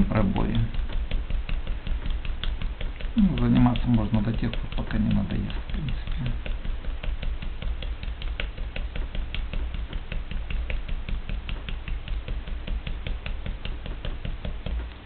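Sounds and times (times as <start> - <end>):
needle clicking through metal mesh: 0.0 - 15.0.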